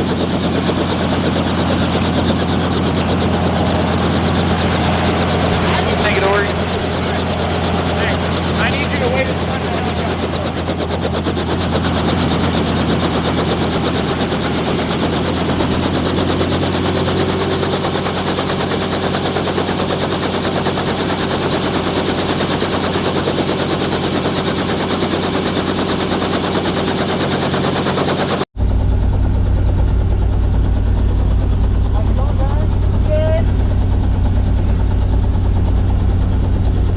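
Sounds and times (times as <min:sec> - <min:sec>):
helicopter rotor chopping: 0:00.0 - 0:36.9.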